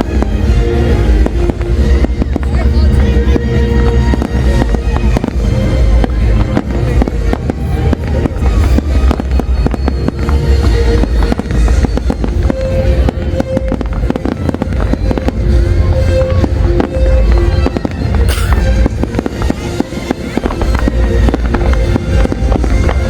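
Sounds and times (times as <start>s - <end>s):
fireworks bangs and booms: 0.0s - 23.0s
music with held notes: 0.0s - 23.0s.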